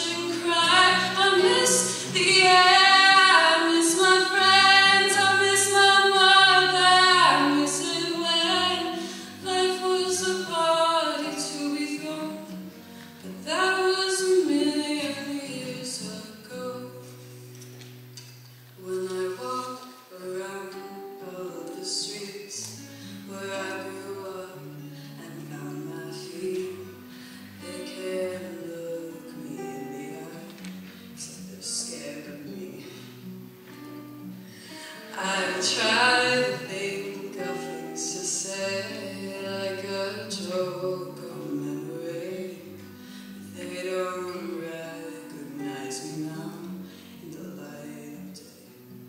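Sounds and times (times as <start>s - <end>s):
woman singing: 0.0s - 17.4s, 18.8s - 33.2s, 34.6s - 48.8s
acoustic guitar: 0.0s - 49.0s.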